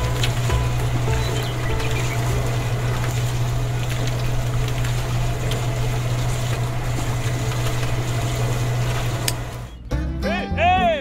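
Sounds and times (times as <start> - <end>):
small motor humming: 0.0 - 9.8
wet cement churning: 0.0 - 9.8.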